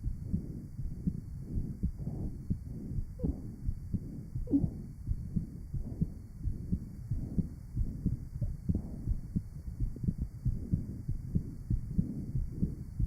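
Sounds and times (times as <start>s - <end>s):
heart murmur: 0.0s - 13.0s
heartbeat thuds: 0.0s - 13.0s.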